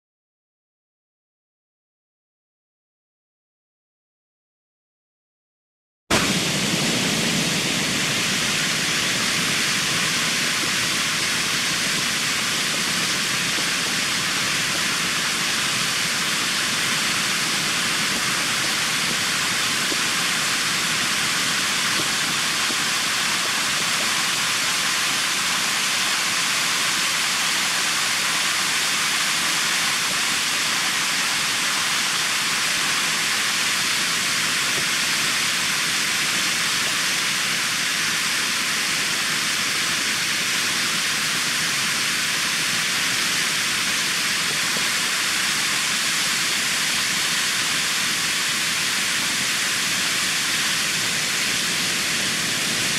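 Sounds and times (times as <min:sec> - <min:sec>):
waterfall rushing over rocks: 0:06.1 - 0:52.9.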